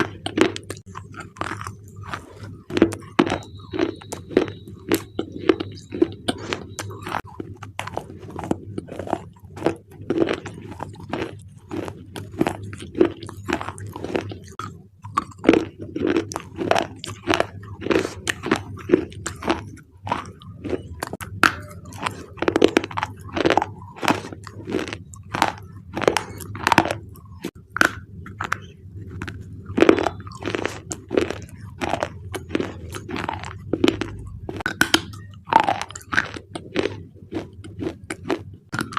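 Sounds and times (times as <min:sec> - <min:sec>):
slate crunching and cracking: 0:00.0 - 0:38.9
steady low hum: 0:00.0 - 0:38.9.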